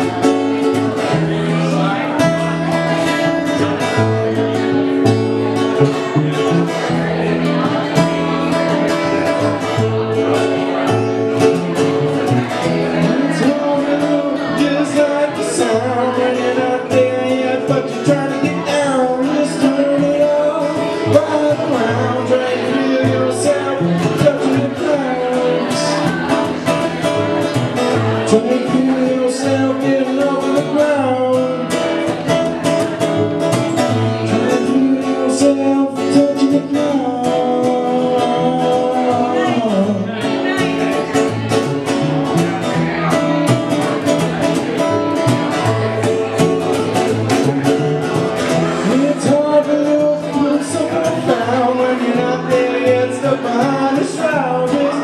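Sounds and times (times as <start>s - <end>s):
acoustic guitar strumming: 0.0s - 55.0s
double bass plucked: 0.0s - 55.0s
man singing: 0.0s - 55.0s.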